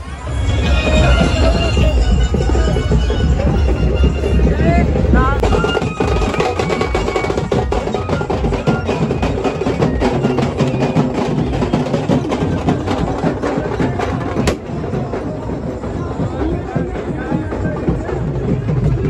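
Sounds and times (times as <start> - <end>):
crowd noise: 0.0 - 19.0
fast dense drumming: 0.8 - 19.0.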